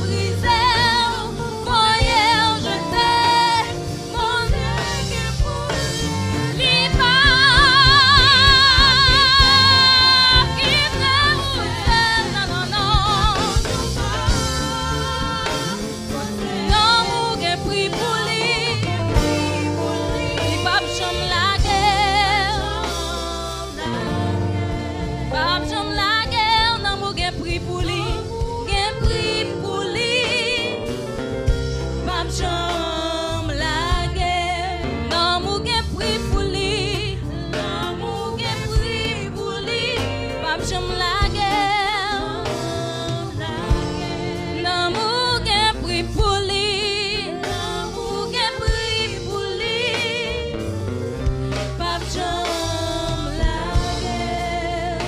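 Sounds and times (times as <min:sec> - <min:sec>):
instrumental backing with deep bass: 0:00.0 - 0:55.0
woman singing gospel with vibrato: 0:00.0 - 0:55.0.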